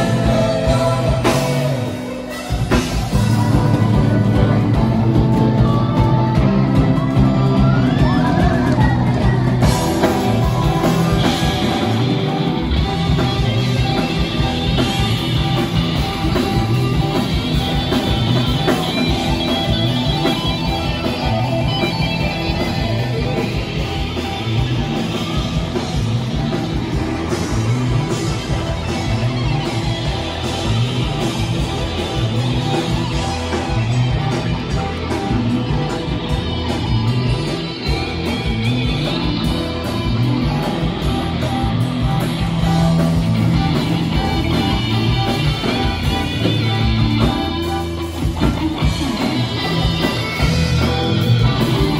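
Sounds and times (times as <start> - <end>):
drum kit: 0.0 - 51.9
electric guitars: 0.0 - 51.9
repeating bass line: 0.0 - 51.9.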